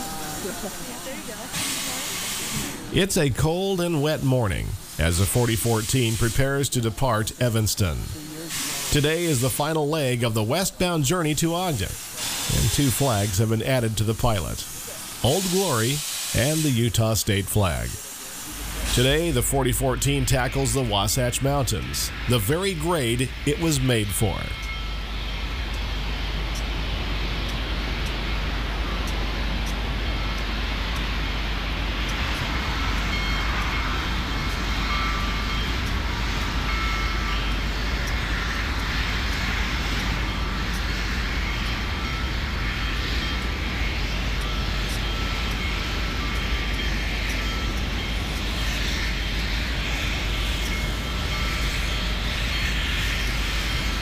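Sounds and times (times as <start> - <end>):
steam locomotive exhaust roar: 0.0 - 54.0.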